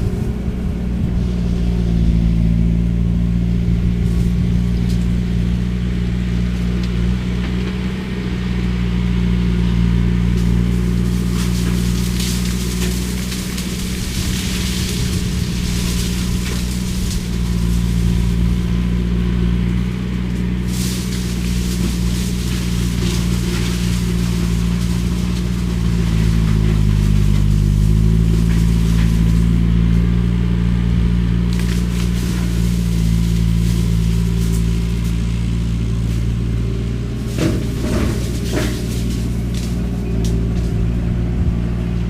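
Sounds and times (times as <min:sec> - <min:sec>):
skid steer shredder running: 0:00.0 - 0:42.0.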